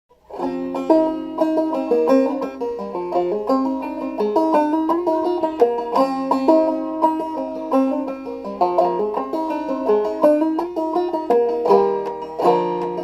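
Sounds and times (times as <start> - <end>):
banjo playing a plucked tune: 0.1 - 13.0.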